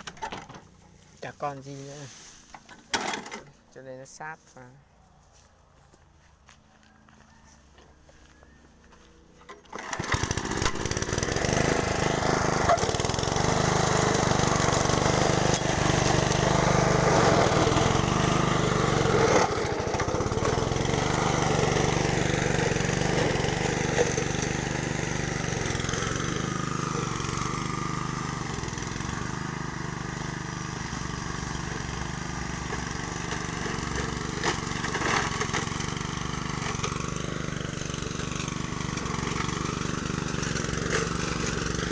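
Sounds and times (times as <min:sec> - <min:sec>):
lawn mower engine running: 0:00.0 - 0:03.6, 0:07.1 - 0:41.9.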